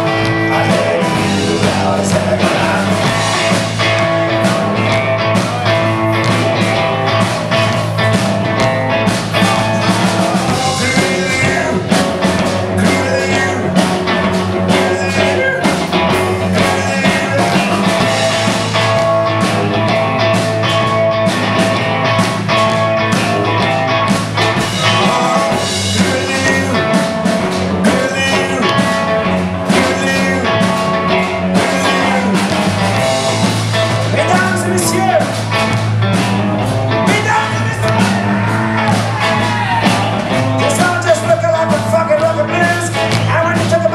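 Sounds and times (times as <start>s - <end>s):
drum kit: 0.0s - 43.9s
electric bass: 0.0s - 43.9s
electric guitar: 0.0s - 43.9s.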